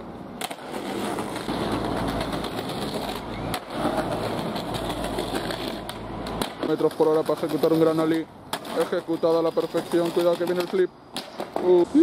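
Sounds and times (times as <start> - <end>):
skateboard wheels rolling on pavement: 0.0 - 12.0
skateboard clacks: 0.4 - 11.9.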